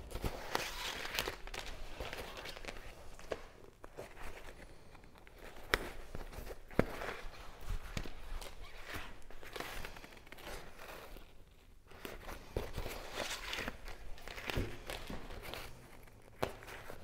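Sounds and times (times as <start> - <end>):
fabric rustling and rasping: 0.0 - 17.0.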